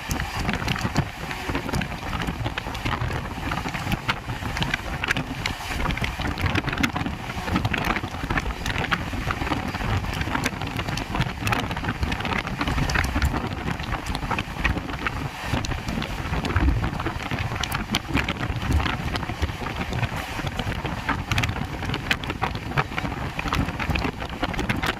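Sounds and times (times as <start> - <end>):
train rumbling on track: 0.0 - 24.9
wheels clicking and rattling: 0.0 - 24.9.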